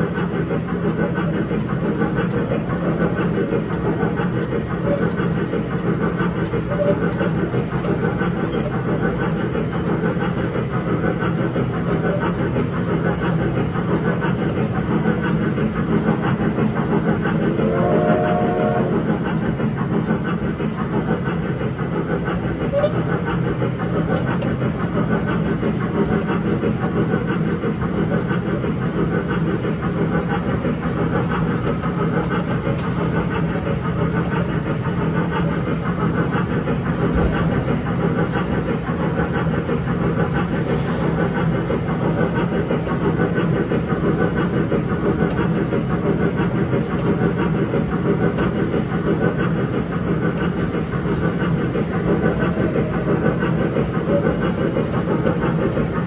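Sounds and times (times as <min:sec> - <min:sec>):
electric train running: 0:00.0 - 0:56.0.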